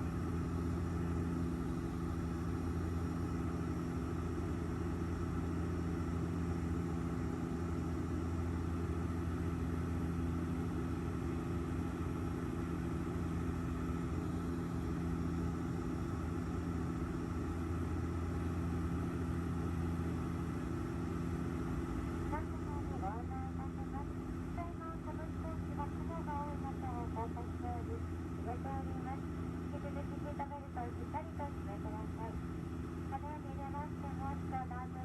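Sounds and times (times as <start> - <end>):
airliner engine drone: 0.0 - 35.0.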